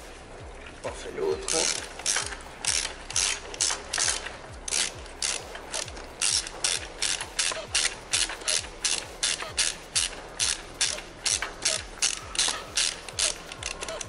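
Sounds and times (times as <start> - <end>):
ratchet wrench clicking: 1.4 - 14.0.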